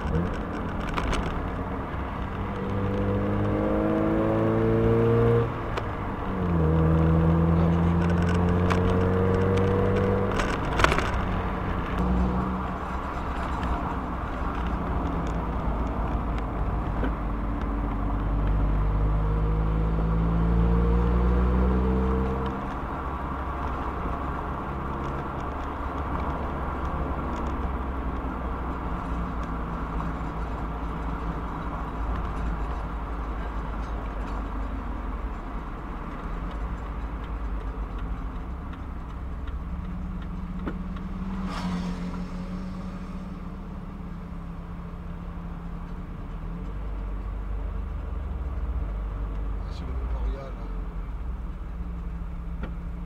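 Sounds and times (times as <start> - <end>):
road noise: 0.0 - 53.0.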